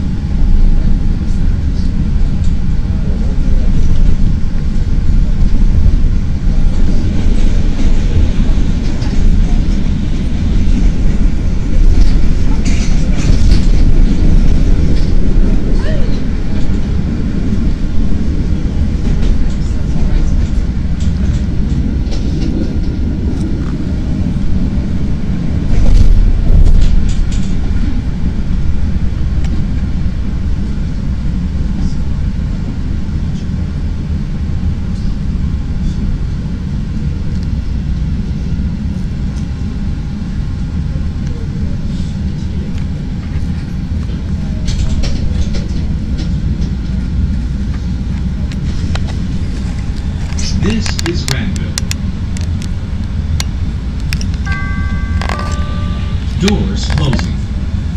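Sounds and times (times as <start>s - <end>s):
train rumbling on elevated track: 0.0s - 57.9s.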